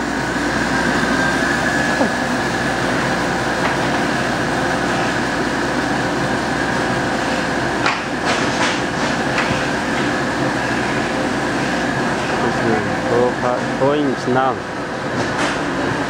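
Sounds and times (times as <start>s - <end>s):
foam cutting machine running: 0.0s - 16.0s.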